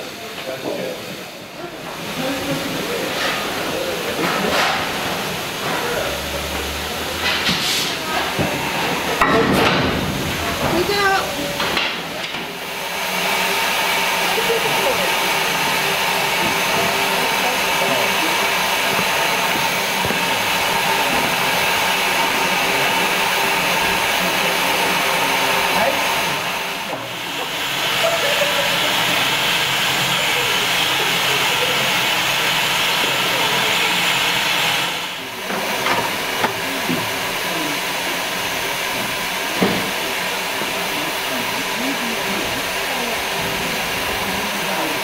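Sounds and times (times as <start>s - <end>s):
steam hissing: 0.0s - 45.0s.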